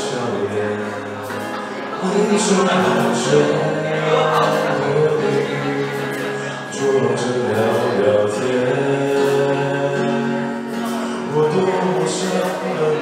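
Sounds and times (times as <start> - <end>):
electronic keyboard: 0.0 - 13.0
man singing into a microphone: 0.0 - 13.0.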